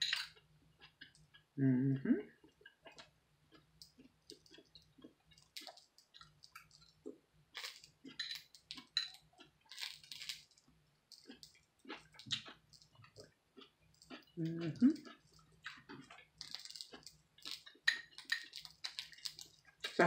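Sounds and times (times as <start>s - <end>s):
wet chewing clicks: 2.3s - 20.0s.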